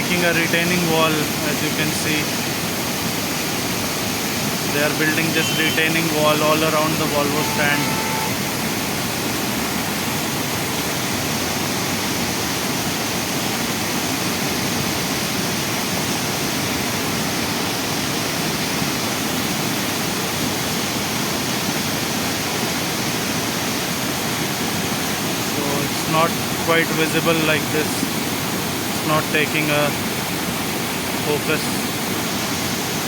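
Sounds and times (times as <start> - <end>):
river rushing in flood: 0.0 - 33.0.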